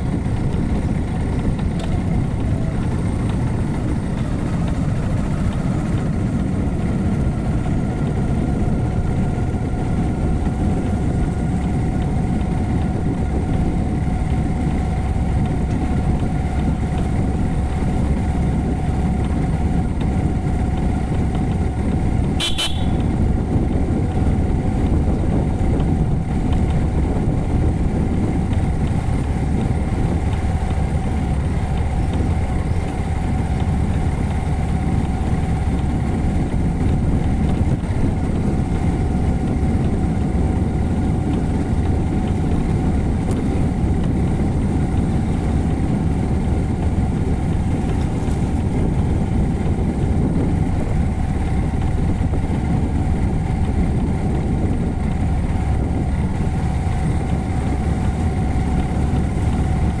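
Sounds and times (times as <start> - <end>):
motorcycle engine running: 0.0 - 60.0
wind rumbling on microphone: 0.0 - 60.0.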